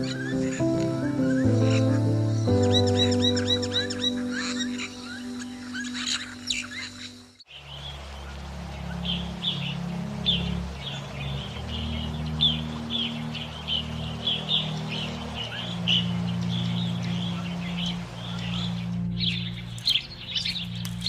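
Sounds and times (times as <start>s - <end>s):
birds chirping: 0.0s - 21.0s
low background music: 0.0s - 21.0s.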